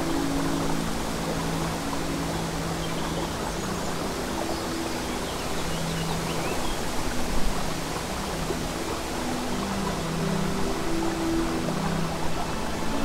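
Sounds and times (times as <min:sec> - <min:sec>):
babbling brook: 0:00.0 - 0:13.0
slow music pad: 0:00.0 - 0:13.0.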